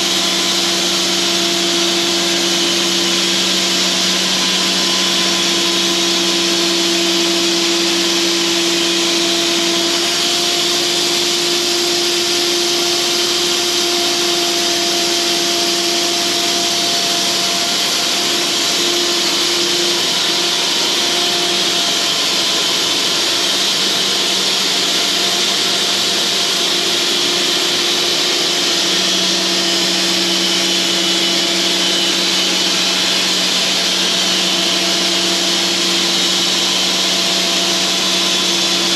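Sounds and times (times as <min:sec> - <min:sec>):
band blade sawing log: 0:00.0 - 0:38.9
sawmill engine humming: 0:00.0 - 0:38.9.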